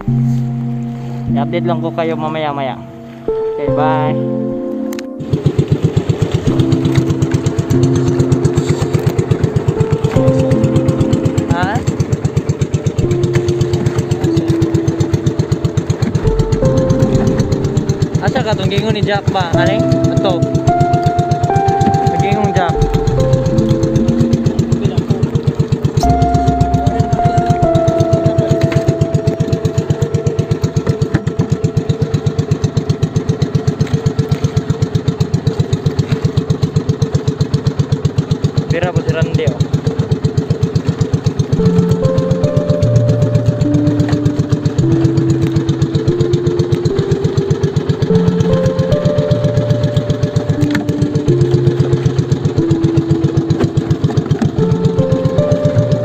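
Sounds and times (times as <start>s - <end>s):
boat engine puttering: 0.0s - 56.0s.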